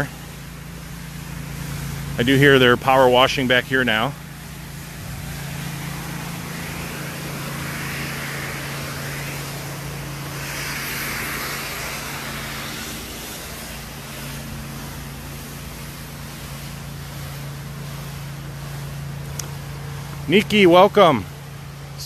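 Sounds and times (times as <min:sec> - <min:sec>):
pressure washer engine hum: 0:00.0 - 0:22.0
pressure washer hissing: 0:00.0 - 0:22.0.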